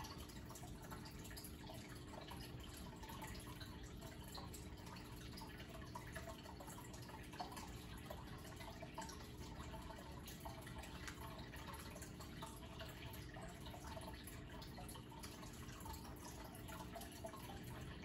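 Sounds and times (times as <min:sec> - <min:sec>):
aquarium water bubbling: 0:00.0 - 0:18.0
faint steady hum: 0:00.0 - 0:18.0
water drips and plops: 0:00.0 - 0:18.0.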